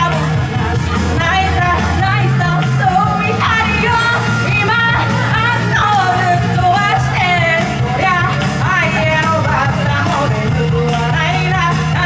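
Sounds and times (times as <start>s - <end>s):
backing track music: 0.0s - 12.0s
woman singing into microphone: 0.0s - 12.0s.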